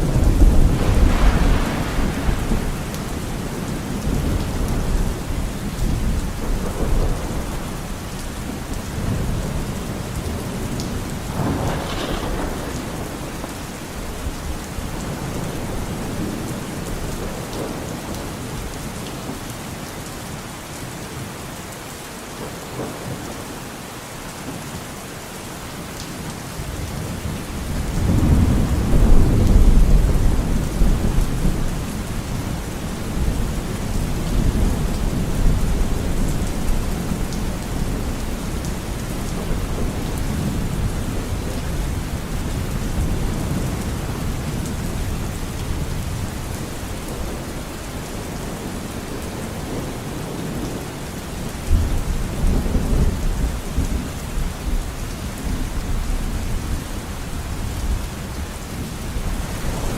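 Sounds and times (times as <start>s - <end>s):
low rolling thunder: 0.0s - 18.8s, 26.6s - 59.9s
heavy rain on forest: 0.0s - 59.9s.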